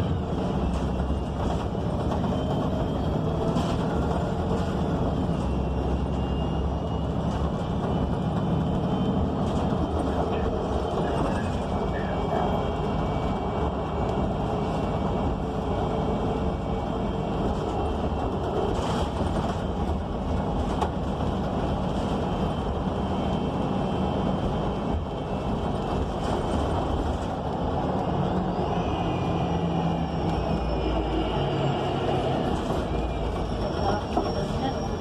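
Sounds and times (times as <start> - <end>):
bus engine running: 0.0 - 35.0
road and body rumble: 0.0 - 35.0.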